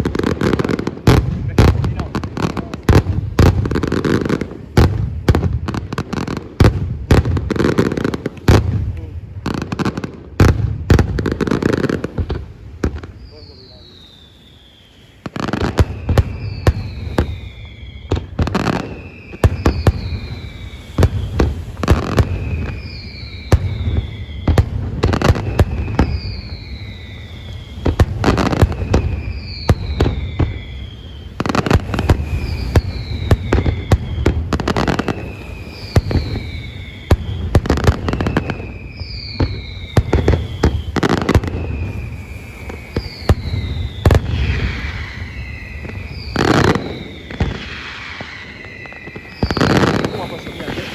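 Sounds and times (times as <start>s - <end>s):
falling firework whistle: 0.0s - 50.9s
fireworks bangs and crackles: 0.0s - 50.9s.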